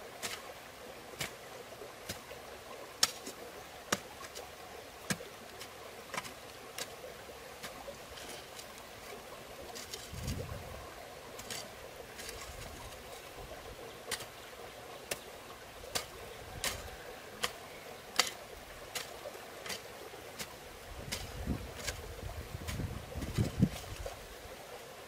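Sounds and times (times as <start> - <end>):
flowing stream: 0.0 - 25.0.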